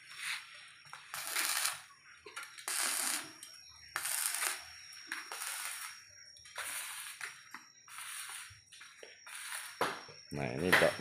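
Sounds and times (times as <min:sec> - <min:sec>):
arc welding crackling sizzle: 0:00.0 - 0:11.0
faint high whine: 0:00.0 - 0:11.0.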